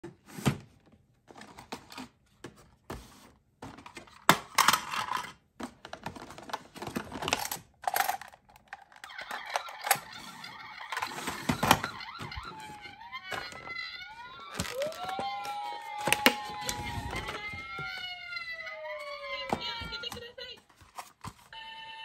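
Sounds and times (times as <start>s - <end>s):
toys rummaged in plastic bins: 0.0s - 21.5s.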